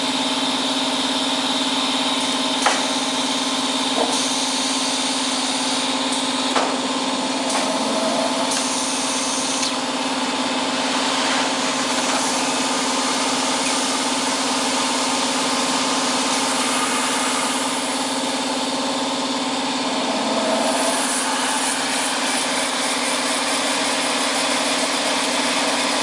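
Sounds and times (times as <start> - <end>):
plate-making machine humming: 0.0 - 26.0.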